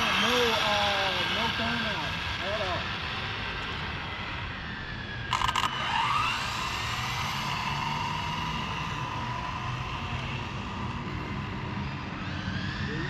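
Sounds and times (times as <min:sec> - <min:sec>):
high electric motor whine: 0:00.0 - 0:13.0.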